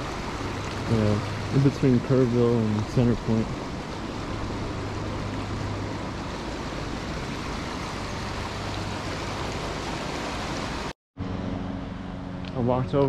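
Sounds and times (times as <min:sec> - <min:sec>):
river water running over rocks: 0:00.0 - 0:10.9.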